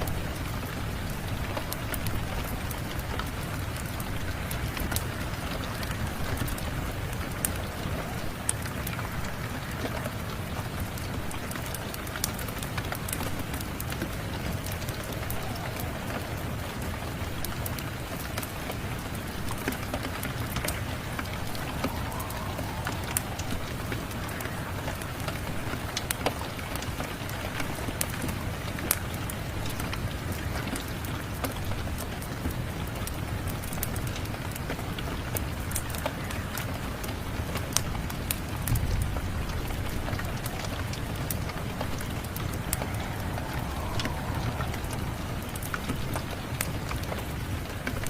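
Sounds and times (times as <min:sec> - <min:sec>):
steady rain: 0:00.0 - 0:48.0
wood fire crackling: 0:00.0 - 0:48.0.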